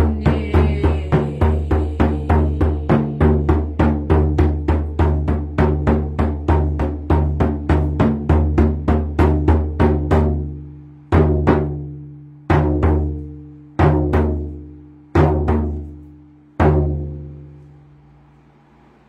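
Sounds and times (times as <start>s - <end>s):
drum with deep ringing tone: 0.0s - 17.5s.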